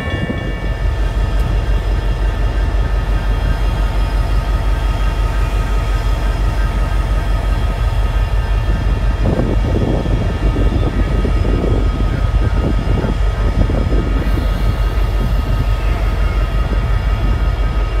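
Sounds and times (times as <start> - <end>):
crossing bell ringing: 0.0 - 18.0
train rumbling past: 0.0 - 18.0.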